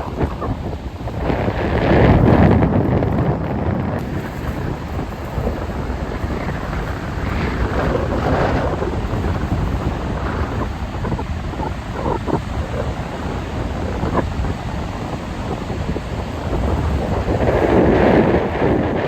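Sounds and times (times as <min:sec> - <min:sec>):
storm waves breaking: 0:00.0 - 0:19.0.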